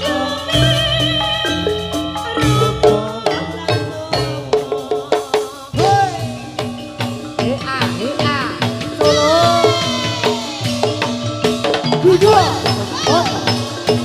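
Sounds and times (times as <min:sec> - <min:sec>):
gamelan drums beating: 0:00.0 - 0:14.0
metallophones ringing: 0:00.0 - 0:14.0.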